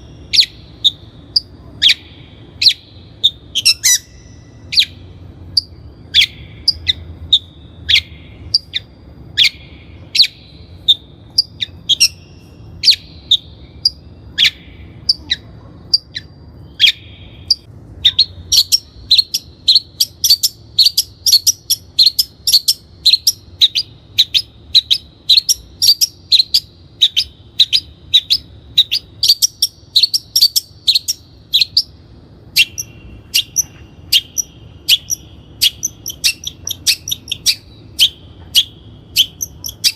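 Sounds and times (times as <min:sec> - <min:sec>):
bird singing scratchy notes: 0:00.0 - 0:39.9.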